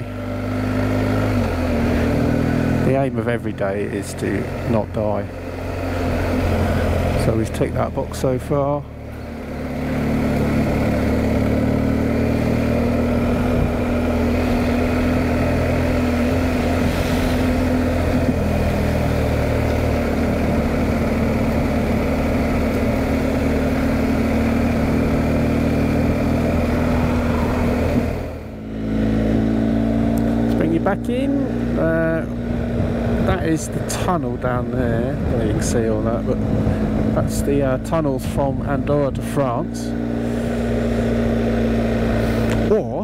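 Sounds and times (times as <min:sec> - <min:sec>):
motorcycle engine cruising: 0:00.0 - 0:43.0
wind and road noise: 0:00.0 - 0:43.0.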